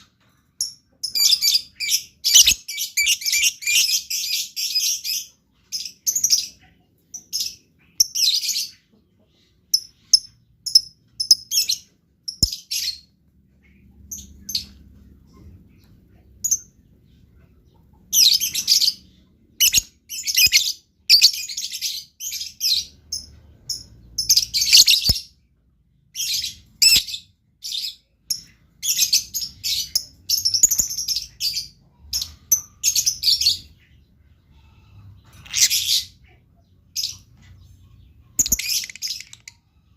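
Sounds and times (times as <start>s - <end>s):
lovebird chirping: 0.6s - 15.0s, 18.0s - 25.4s, 26.1s - 39.9s.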